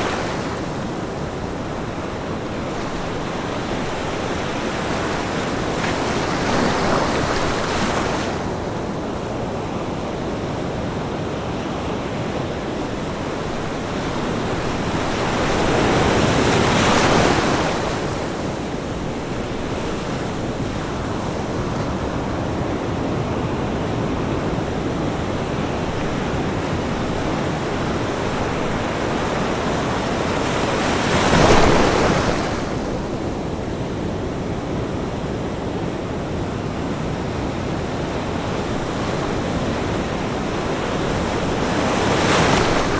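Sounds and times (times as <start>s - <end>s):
ocean waves breaking on a beach: 0.0s - 42.9s.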